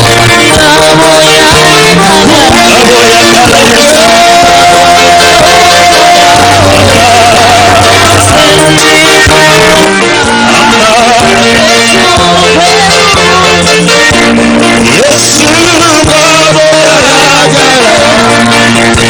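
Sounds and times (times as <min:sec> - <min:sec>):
held bass notes: 0:00.0 - 0:19.0
person singing: 0:00.0 - 0:19.0.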